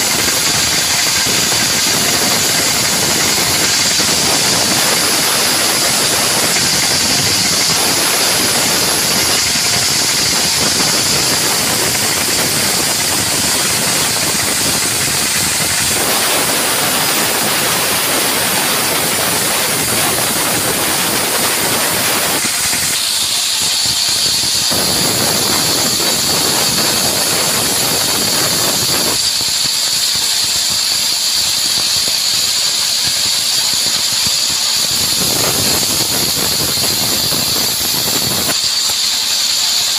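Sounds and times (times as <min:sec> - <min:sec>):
band saw hiss with high whine: 0:00.0 - 0:39.9.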